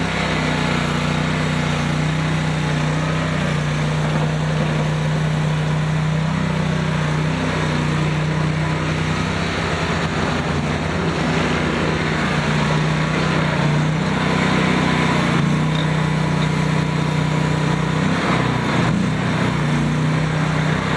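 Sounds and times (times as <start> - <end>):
skid steer engine running: 0.0 - 20.9.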